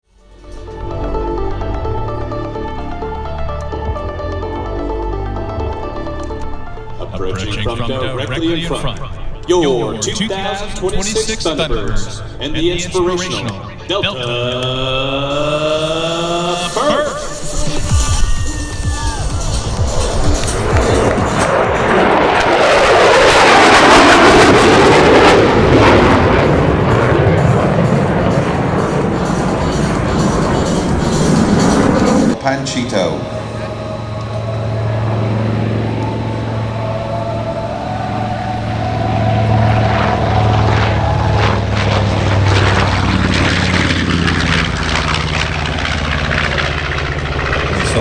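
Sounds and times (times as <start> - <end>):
piston engine drone: 0.0 - 48.0
propeller rasp: 0.3 - 48.0
jet fighters roaring overhead: 0.6 - 48.0.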